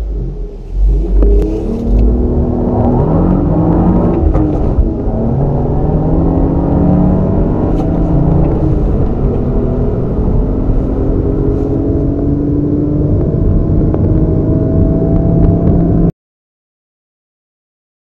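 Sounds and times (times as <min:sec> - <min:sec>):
car engine accelerating: 0:00.0 - 0:16.1.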